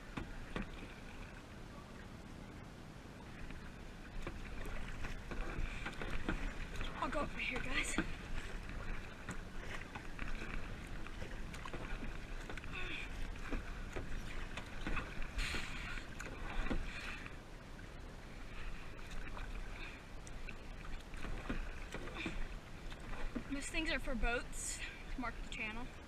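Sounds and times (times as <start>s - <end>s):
kayak paddle splashing: 0.0s - 2.0s, 3.2s - 26.0s
steady low rumble: 0.0s - 26.0s.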